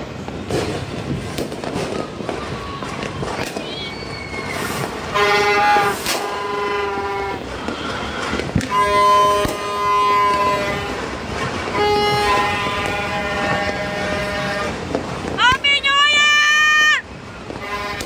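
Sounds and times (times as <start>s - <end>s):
firework bang: 0.0s - 18.0s.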